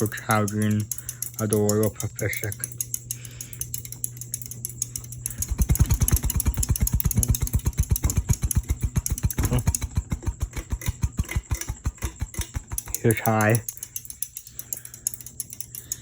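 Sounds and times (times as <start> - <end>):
ceiling fan motor humming: 0.0 - 16.0
fast even clicking of fan: 0.0 - 16.0.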